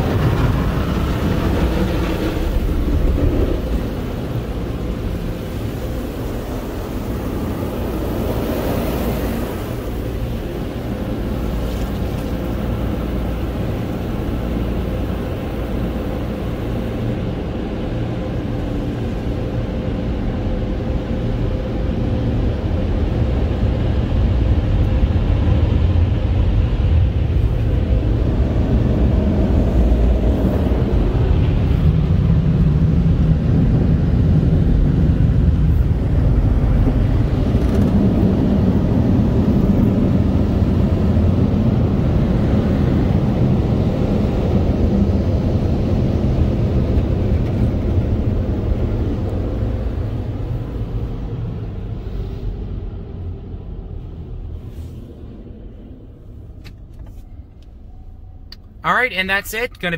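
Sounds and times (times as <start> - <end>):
blower dryers rushing air: 0.0 - 56.6.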